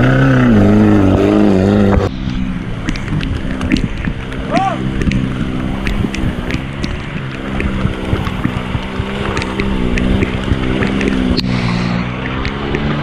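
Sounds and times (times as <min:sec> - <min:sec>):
vehicle engine under load: 0:00.0 - 0:13.0
knocks and rattles: 0:01.0 - 0:13.0.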